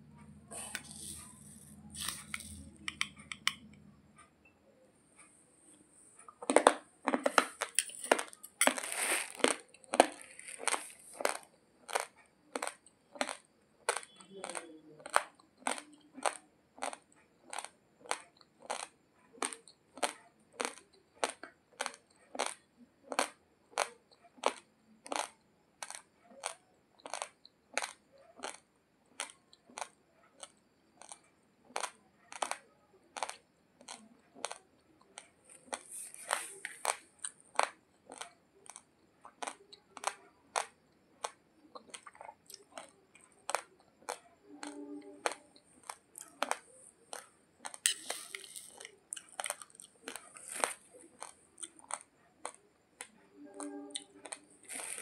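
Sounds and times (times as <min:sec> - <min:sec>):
rice grains crunched by chewing: 0:00.5 - 0:03.6, 0:06.2 - 0:53.2, 0:53.8 - 0:55.0.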